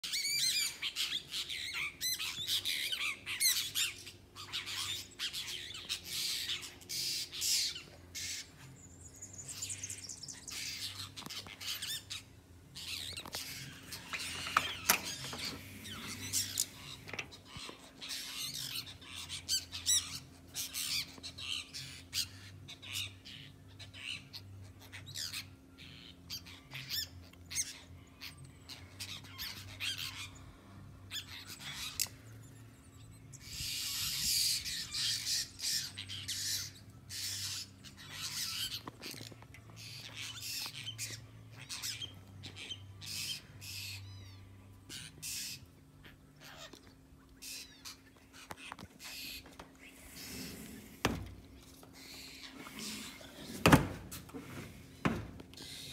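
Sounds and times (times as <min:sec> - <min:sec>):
many birds calling: 0:00.0 - 0:55.9.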